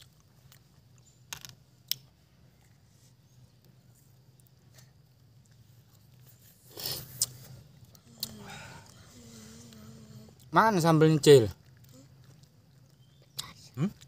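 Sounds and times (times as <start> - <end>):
faint low hum: 0.0 - 14.0
eating sound: 2.5 - 14.0.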